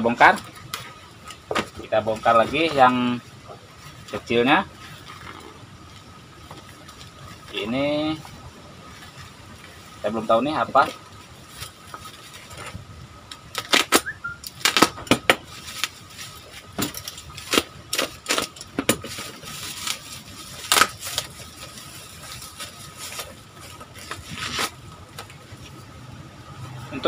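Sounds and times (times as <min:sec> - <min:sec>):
bubble wrap crinkling and crackling: 0:00.0 - 0:27.0.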